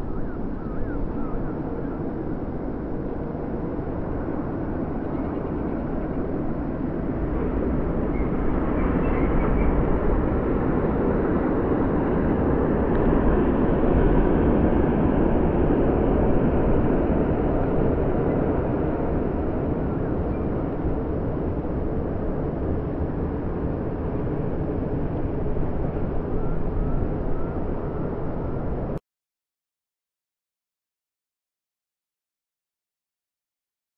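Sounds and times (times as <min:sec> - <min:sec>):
jet engines rumbling: 0:00.0 - 0:29.0
wind buffeting microphone: 0:00.0 - 0:29.0.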